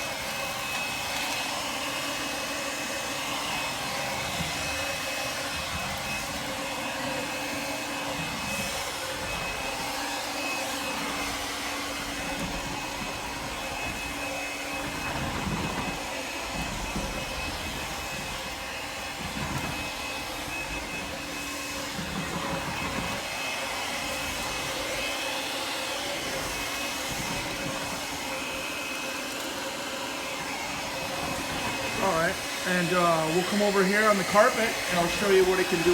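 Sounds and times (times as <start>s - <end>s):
stick vacuum running: 0.0s - 35.9s.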